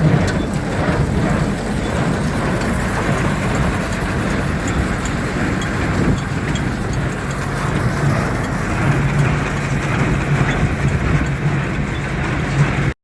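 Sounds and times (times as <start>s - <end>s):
baler mechanical clatter: 0.0s - 12.9s
low engine hum: 0.0s - 13.0s.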